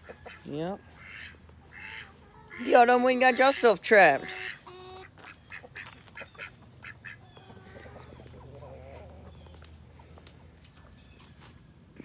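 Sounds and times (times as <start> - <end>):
ducks quacking: 0.0 - 10.2.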